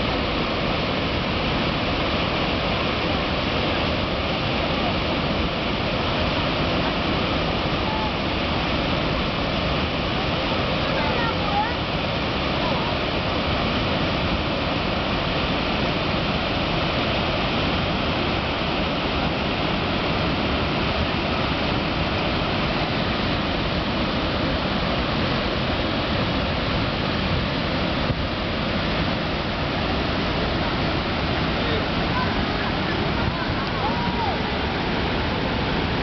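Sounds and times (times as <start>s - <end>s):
water rushing through spillway: 0.0s - 36.0s.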